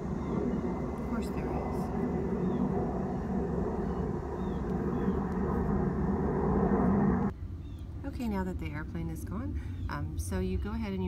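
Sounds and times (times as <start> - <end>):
airplane passing overhead: 0.0 - 10.7.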